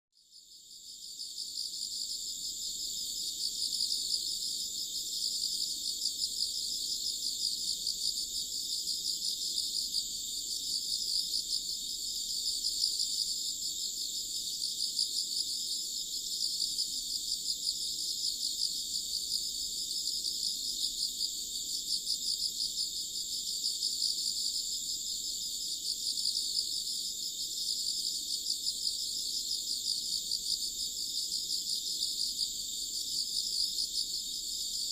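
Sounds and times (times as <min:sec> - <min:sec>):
insects chirping: 0:00.3 - 0:34.9.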